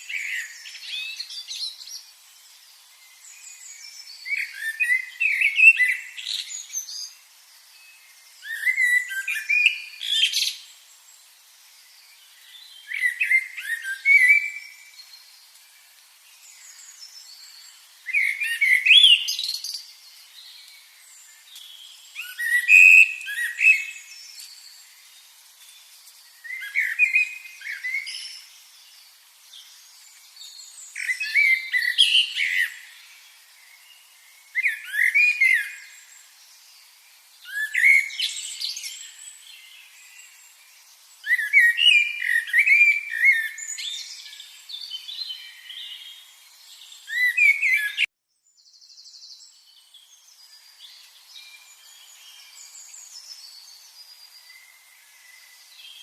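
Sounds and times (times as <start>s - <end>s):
birds singing: 0.0s - 11.2s, 11.8s - 56.0s
faint bird chirping: 0.0s - 56.0s.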